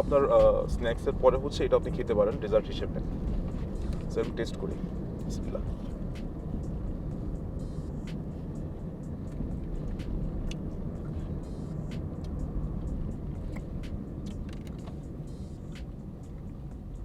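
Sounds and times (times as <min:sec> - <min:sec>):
car rumble from inside cabin: 0:00.0 - 0:17.0.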